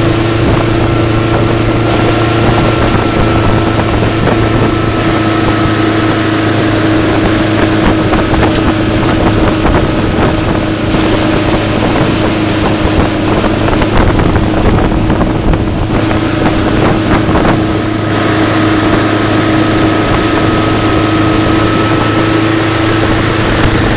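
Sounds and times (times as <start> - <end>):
boat engine droning: 0.0 - 23.9
wind on microphone: 0.0 - 23.9.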